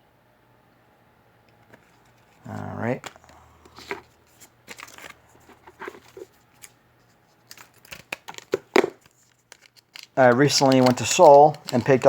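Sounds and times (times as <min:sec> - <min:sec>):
trading cards being handled: 0:01.6 - 0:12.0.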